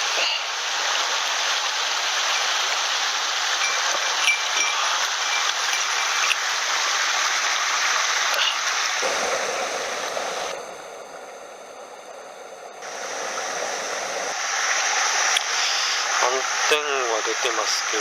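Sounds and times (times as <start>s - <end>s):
stream rushing over rocks: 0.0s - 10.8s, 12.8s - 18.0s.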